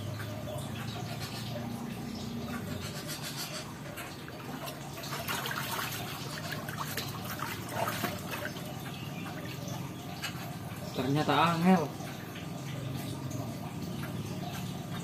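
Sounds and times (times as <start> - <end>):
pond water splashing and trickling: 0.0 - 15.0.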